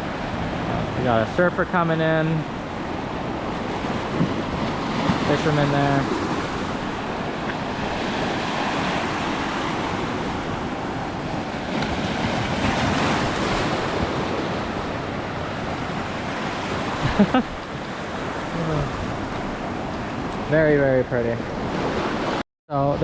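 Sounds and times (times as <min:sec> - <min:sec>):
breaking waves: 0:00.0 - 0:22.4.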